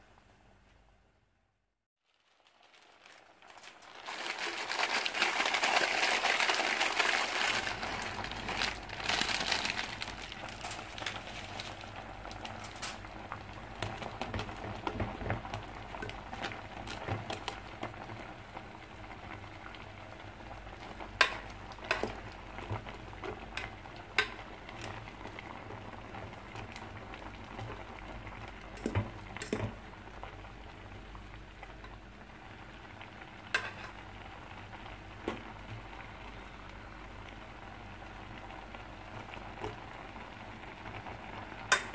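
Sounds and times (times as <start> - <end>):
water boiling and bubbling: 2.0 - 41.9.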